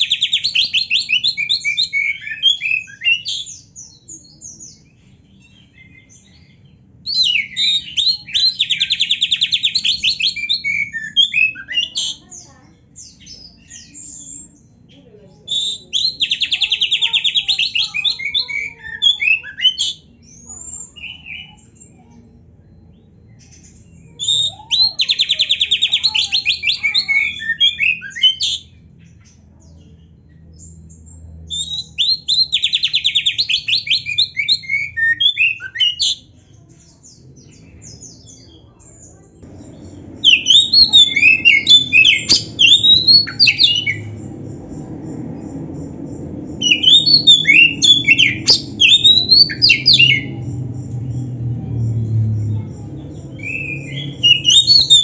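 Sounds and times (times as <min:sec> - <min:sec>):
songbird singing trills and whistles: 0:00.0 - 0:55.0.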